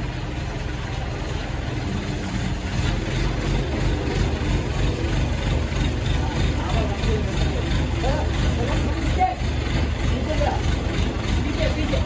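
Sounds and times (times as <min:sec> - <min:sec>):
crane diesel engine running: 0:00.0 - 0:12.0.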